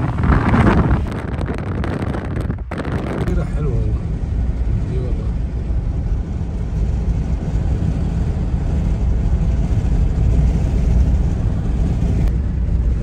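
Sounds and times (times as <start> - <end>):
car driving on highway from inside: 0.0 - 13.0.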